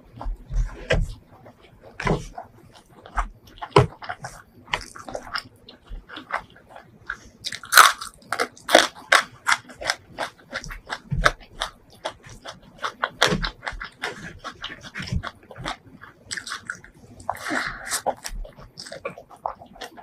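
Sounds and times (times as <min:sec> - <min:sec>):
wet chewing and lip smacking: 0:01.2 - 0:20.0.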